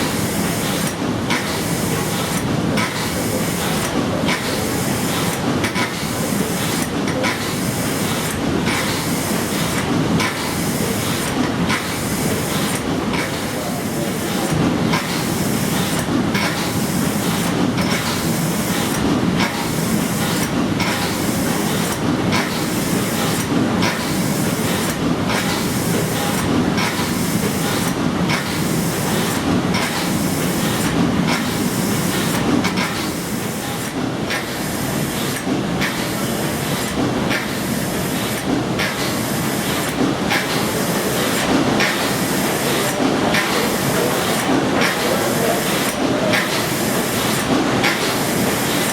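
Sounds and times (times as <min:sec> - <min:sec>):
steam engine hissing and clattering: 0:00.0 - 0:48.9.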